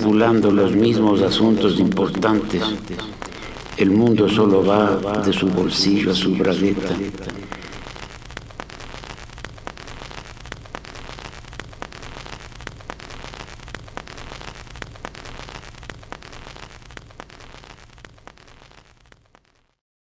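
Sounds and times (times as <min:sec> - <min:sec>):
steady hiss with crackles: 0:00.0 - 0:19.8.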